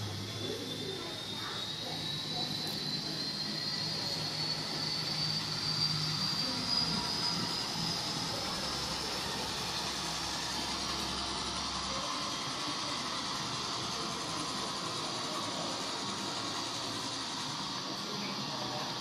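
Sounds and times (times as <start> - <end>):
model train motor whine: 0.0 - 19.0.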